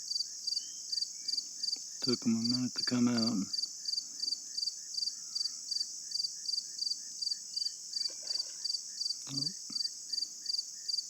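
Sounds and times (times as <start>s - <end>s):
insects buzzing high-pitched: 0.0s - 11.0s
insects chirping rhythmically: 0.0s - 11.0s.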